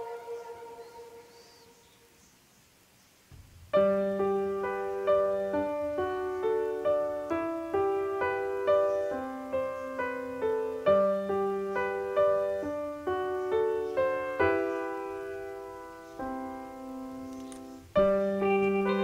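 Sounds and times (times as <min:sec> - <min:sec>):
slow solo piano melody: 0:03.3 - 0:19.0.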